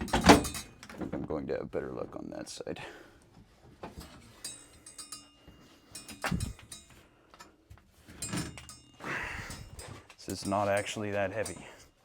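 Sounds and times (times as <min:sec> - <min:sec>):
light clinks and knocks: 0:00.0 - 0:01.2, 0:03.3 - 0:12.0.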